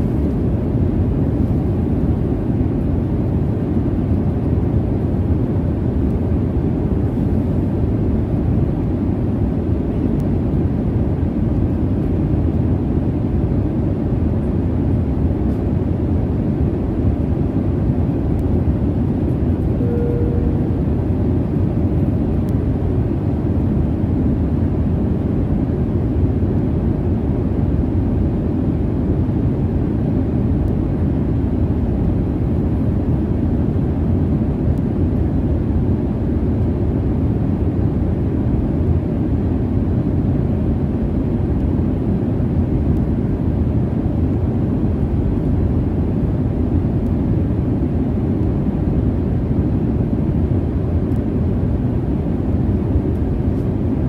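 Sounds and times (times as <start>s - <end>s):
airliner cabin rumble and hiss: 0.0s - 54.0s.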